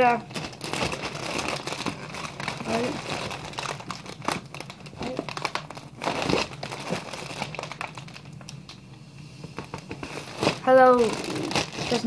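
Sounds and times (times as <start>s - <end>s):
foil balloon crinkling: 0.0s - 8.9s, 9.5s - 12.0s.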